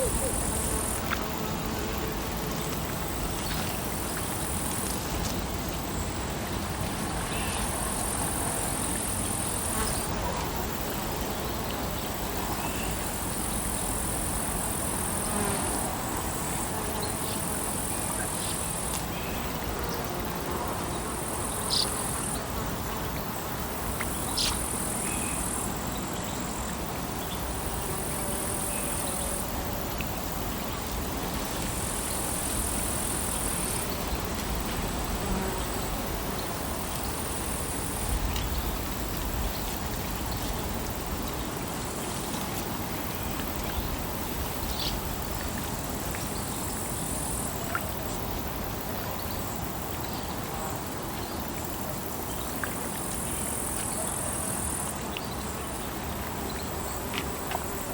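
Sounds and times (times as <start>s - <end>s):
high insect buzz: 0.0s - 57.9s.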